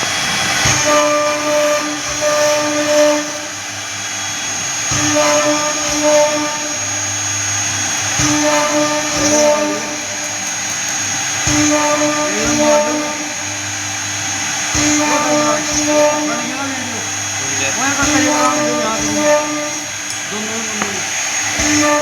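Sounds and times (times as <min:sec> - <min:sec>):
motor tones: 0:00.0 - 0:22.0
router spindle whirring: 0:00.0 - 0:22.0.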